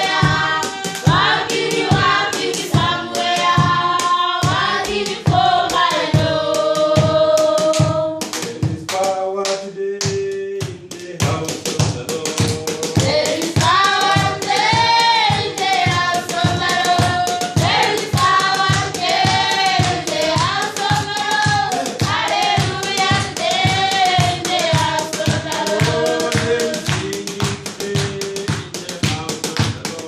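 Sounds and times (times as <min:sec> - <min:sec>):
steady beat: 0:00.0 - 0:30.0
voices singing a worship song: 0:00.0 - 0:30.0.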